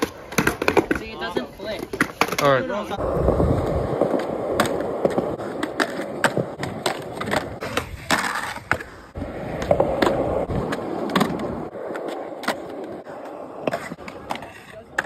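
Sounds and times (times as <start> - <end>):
skateboard clacks: 0.0 - 15.0
skateboard wheels on concrete: 0.0 - 15.0.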